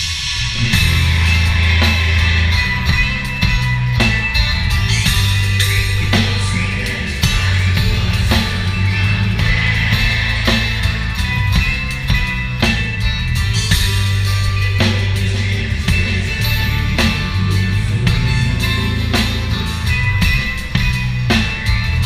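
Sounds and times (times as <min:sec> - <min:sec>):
drums and cymbals beat: 0:00.0 - 0:22.0
live band music: 0:00.0 - 0:22.0.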